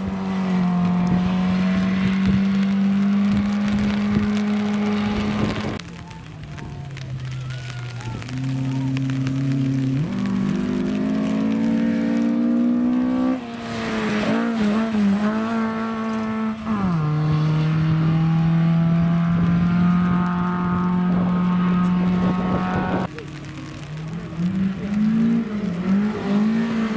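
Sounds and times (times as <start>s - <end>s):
gravel noise under tyres: 0.0s - 26.9s
rally car engine revving: 0.0s - 26.9s.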